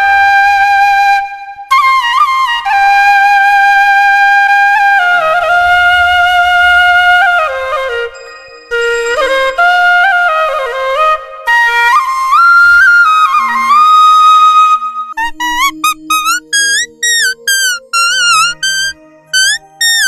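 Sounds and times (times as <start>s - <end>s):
bamboo flute melody: 0.0s - 20.0s.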